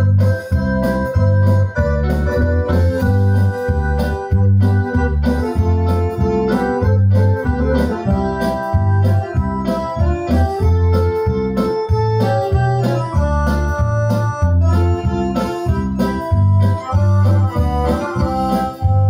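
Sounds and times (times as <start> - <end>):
digital accordion playing chords: 0.0 - 19.0
pulsing bass beat: 0.0 - 19.0.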